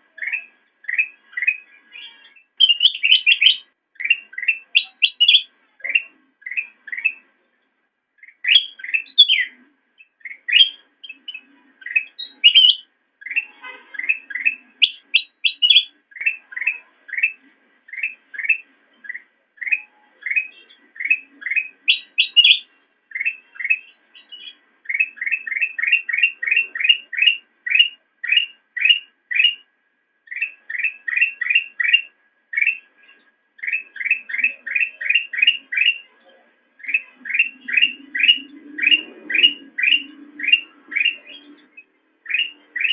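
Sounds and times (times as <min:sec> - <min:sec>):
bird whistling song: 0:00.1 - 0:07.3, 0:08.2 - 0:42.9.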